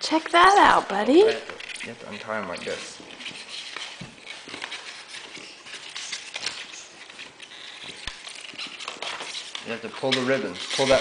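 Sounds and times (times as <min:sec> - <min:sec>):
scratching and rustling packaging: 0:00.0 - 0:11.0.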